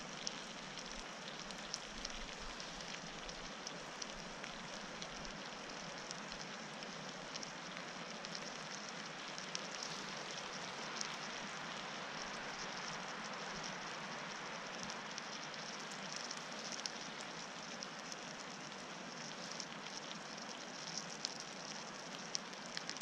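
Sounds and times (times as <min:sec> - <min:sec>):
light rain pattering on a tarp: 0:00.0 - 0:23.0
small drip ticks: 0:00.0 - 0:23.0.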